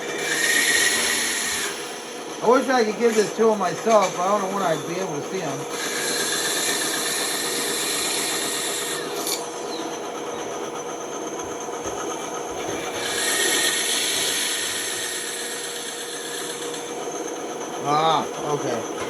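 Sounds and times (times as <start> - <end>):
saw blade cutting wood: 0.0 - 9.9, 11.4 - 17.3
bandsaw motor hum: 0.0 - 19.0.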